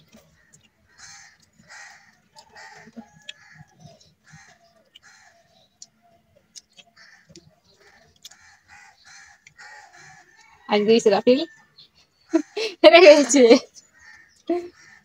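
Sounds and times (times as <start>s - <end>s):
faint birds calling: 0.0s - 15.0s.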